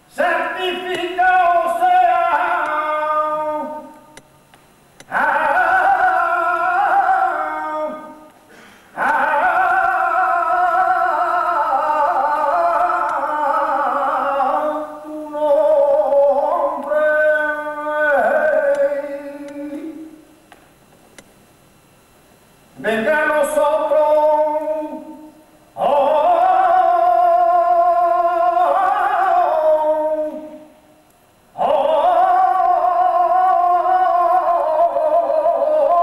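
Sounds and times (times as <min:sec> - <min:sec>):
person singing unaccompanied: 0:00.0 - 0:04.3, 0:05.0 - 0:08.4, 0:09.0 - 0:20.2, 0:22.8 - 0:30.8, 0:31.5 - 0:36.0.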